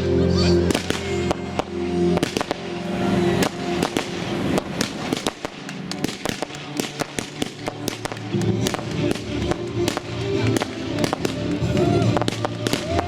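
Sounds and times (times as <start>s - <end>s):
music playing: 0.0s - 13.0s
fireworks crackling and popping: 0.6s - 13.0s.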